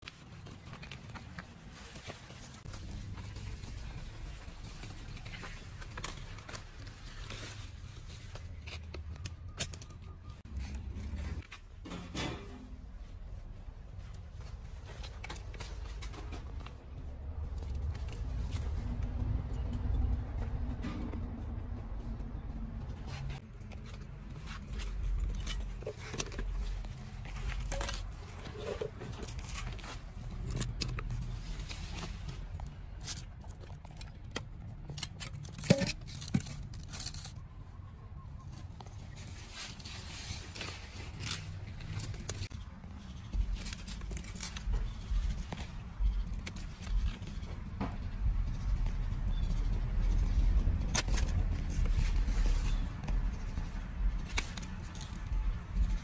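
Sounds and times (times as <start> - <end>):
leafy branches rustling and scraping: 0.0 - 20.1, 20.7 - 34.2, 34.8 - 47.8, 48.4 - 56.0.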